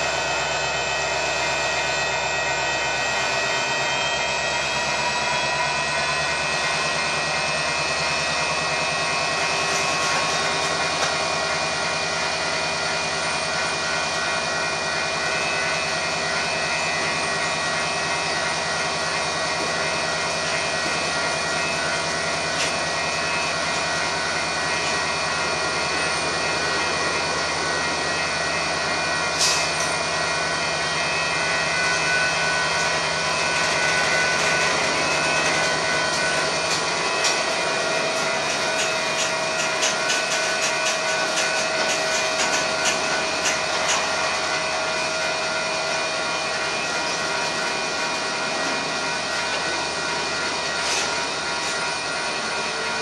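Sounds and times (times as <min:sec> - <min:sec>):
diesel locomotive engine drone: 0:00.0 - 0:53.0
high even whine: 0:00.0 - 0:53.0.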